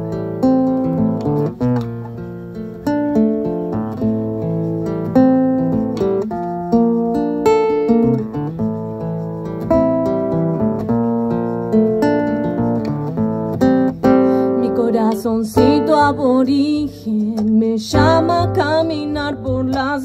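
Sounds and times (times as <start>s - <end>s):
acoustic guitar strumming: 0.0s - 20.0s
mandolin picked melody: 0.0s - 20.0s.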